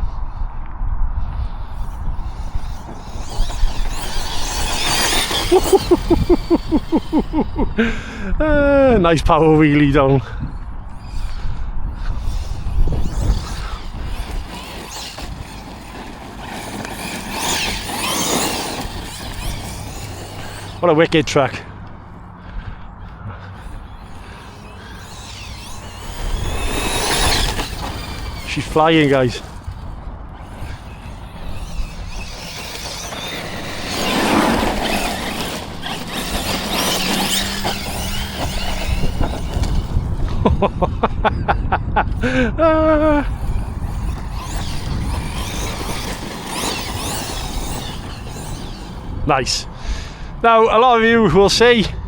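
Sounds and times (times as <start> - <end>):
electric motor whining: 1.2 - 8.6, 10.2 - 41.3, 41.9 - 50.4
quick run of clicks: 1.4 - 7.5, 10.4 - 40.7, 43.0 - 50.3
tyre noise on dirt: 1.6 - 8.7, 10.3 - 41.2, 42.2 - 50.5.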